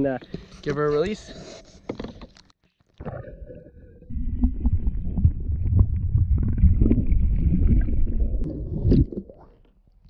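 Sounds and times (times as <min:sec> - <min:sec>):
churning water underwater: 0:01.7 - 0:10.0.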